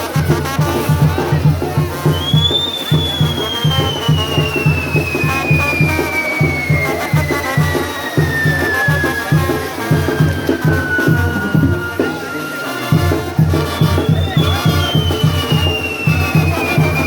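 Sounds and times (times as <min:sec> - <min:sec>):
live band music: 0:00.0 - 0:17.0
steady bass drum beat: 0:00.0 - 0:17.0
long high falling whistle: 0:02.2 - 0:17.0.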